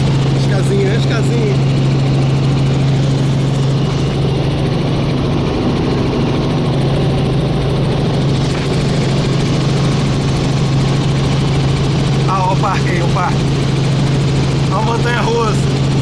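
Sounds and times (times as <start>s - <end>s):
helicopter engine and rotors: 0.0s - 16.0s.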